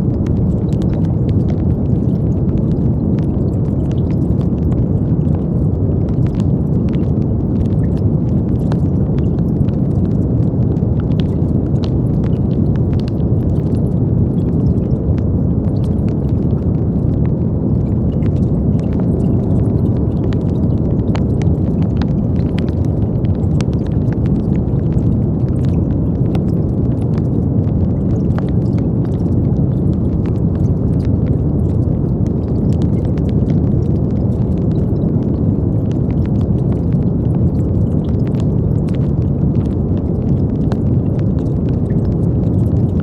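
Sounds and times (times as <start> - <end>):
steady brown noise: 0.0 - 43.0.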